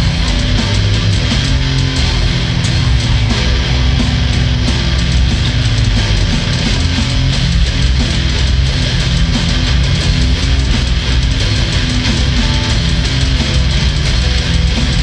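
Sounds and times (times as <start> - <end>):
distorted electric guitar: 0.0 - 15.0
drum kit: 0.0 - 15.0
electric bass: 0.0 - 15.0.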